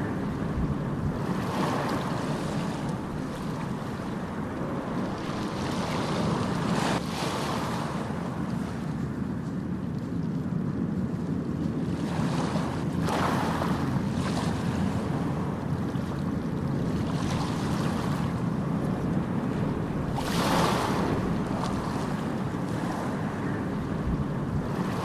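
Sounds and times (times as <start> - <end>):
low rumble of sea: 0.0 - 25.0
waves breaking and washing in: 0.0 - 25.0.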